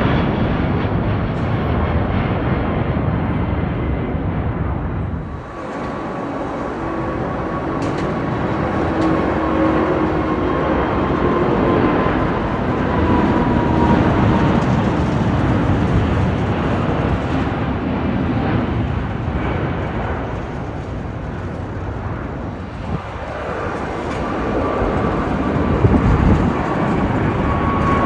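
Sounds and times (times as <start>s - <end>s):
jet airliner engines roaring: 0.0s - 28.0s.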